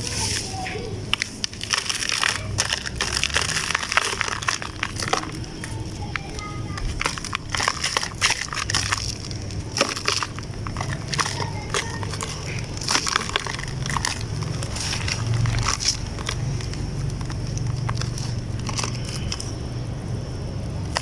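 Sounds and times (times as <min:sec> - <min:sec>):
damp chunks crumbling: 0:00.0 - 0:21.0.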